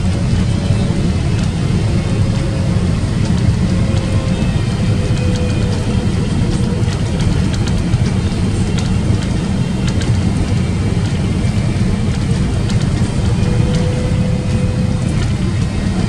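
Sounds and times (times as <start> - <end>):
engine and airflow rumble: 0.0 - 16.0.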